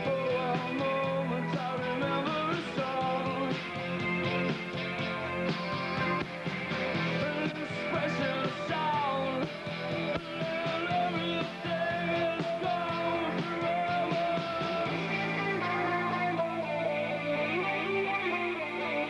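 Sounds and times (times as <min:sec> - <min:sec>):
person singing: 0:00.0 - 0:04.1, 0:07.0 - 0:19.0
drums: 0:00.0 - 0:19.0
electric guitars: 0:00.0 - 0:19.0.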